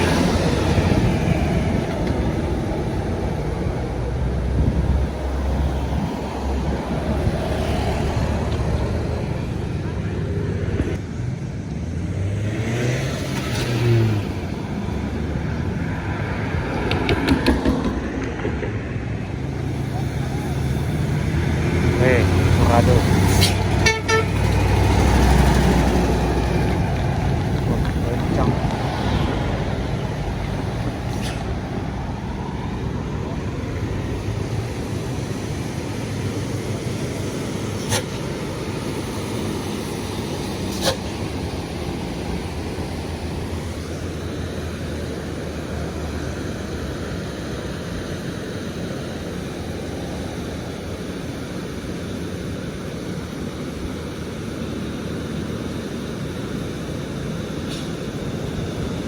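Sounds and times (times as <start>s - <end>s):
heavy vehicle engines: 0.0s - 59.0s
tyre and road noise: 0.0s - 59.0s.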